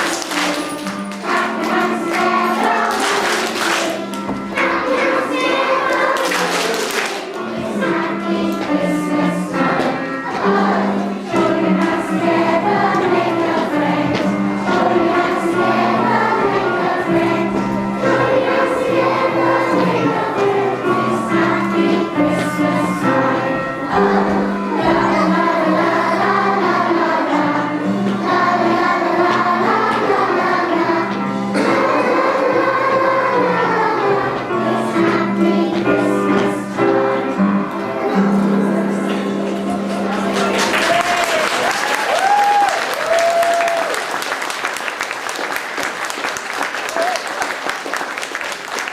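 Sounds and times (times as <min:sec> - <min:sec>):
held instrumental notes: 0:00.0 - 0:41.3
children's choir singing: 0:00.0 - 0:46.8.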